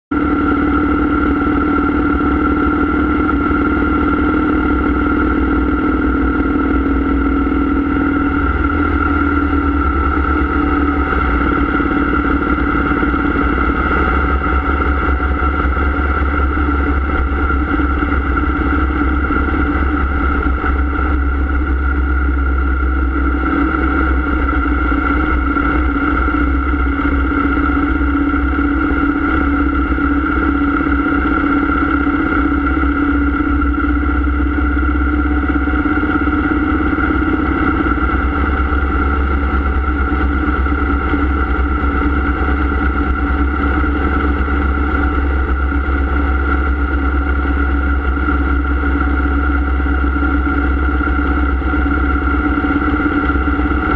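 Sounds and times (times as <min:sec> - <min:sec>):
motorcycle engine cruising: 0:00.1 - 0:53.9.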